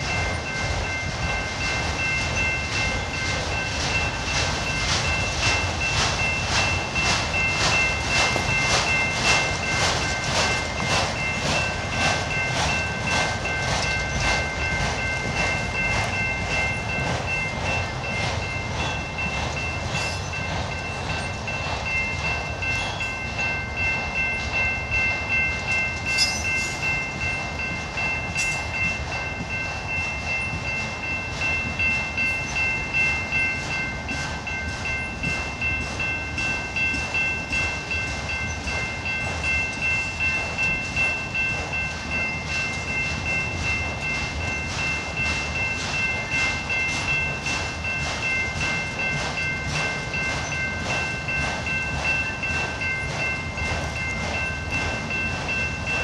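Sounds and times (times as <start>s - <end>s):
steady high ringing tone: 0.0s - 56.0s
train wheels clacking over rail joints: 0.0s - 56.0s.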